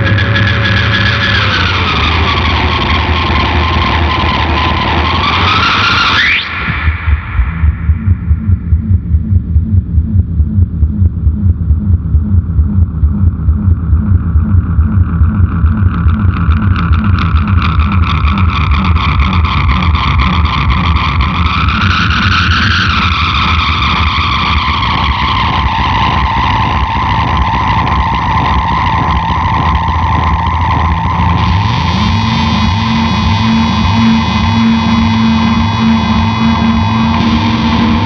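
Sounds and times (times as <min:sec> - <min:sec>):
distorted electric guitar drone: 0:00.0 - 0:38.0.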